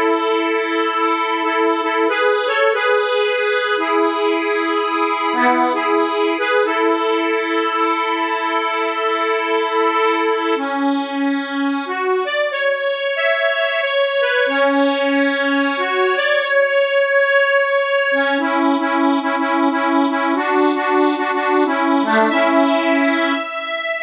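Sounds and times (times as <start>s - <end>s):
accordion chords and melody: 0.0s - 24.0s.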